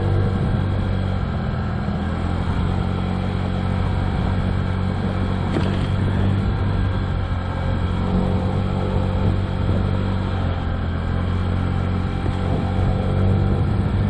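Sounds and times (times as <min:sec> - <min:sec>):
scooter engine running: 0:00.0 - 0:14.0.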